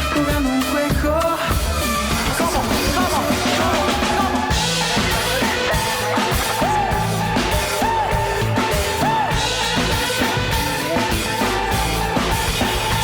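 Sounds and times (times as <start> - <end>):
drum kit kick and snare: 0.0 - 13.0
live band playing soul-pop: 0.0 - 13.0.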